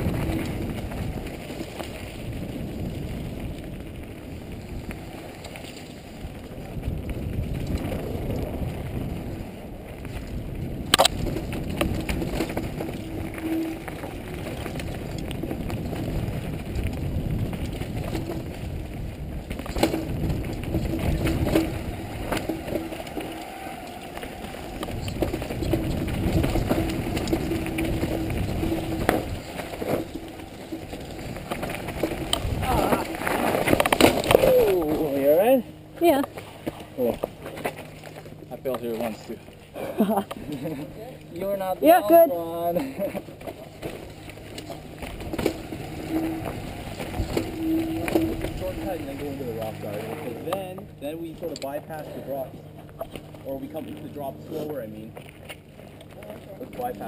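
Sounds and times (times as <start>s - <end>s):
bike rattles and clicks: 0.0s - 57.0s
bike tyres rumbling over trail: 0.0s - 57.0s.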